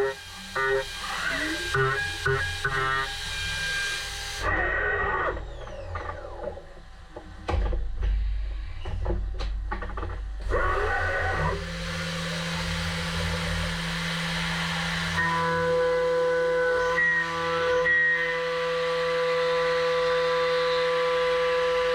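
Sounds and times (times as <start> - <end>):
spindle hum: 0.0 - 18.4
spindle whine: 0.0 - 18.8.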